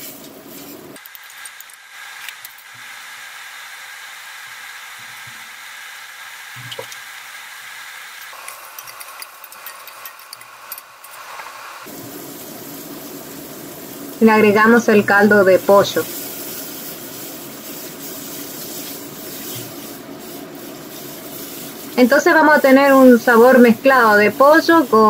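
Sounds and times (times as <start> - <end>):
shellfish sizzling in oil: 0.0 - 25.0.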